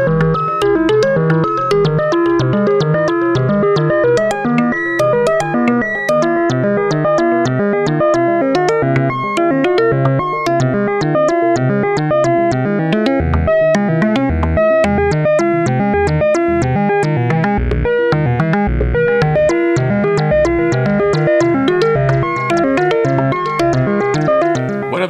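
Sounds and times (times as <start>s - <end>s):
synthesizer plucked notes: 0.0s - 25.0s.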